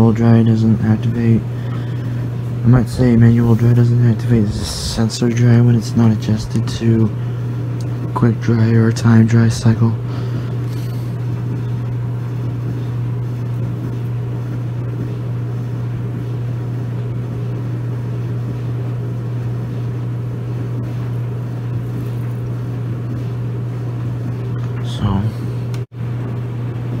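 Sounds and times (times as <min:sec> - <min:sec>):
clothes dryer humming: 0:00.0 - 0:27.0.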